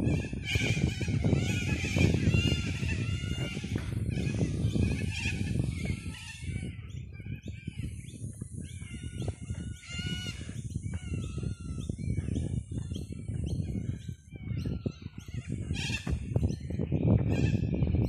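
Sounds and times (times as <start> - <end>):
low rumbling noise: 0.0 - 17.8
birds chirping: 0.0 - 18.0.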